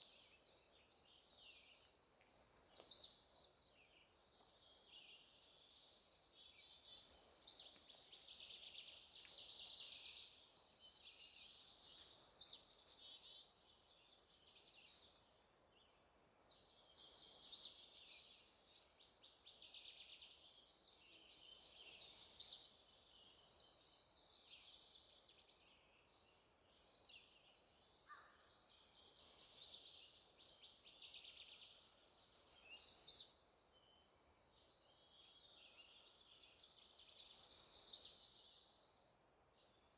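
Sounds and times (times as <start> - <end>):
quiet birdsong: 0.0 - 39.9.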